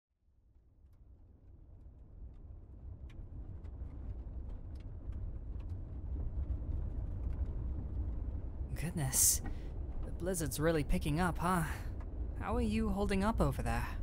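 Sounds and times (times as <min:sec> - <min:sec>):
storm wind: 0:00.7 - 0:14.0.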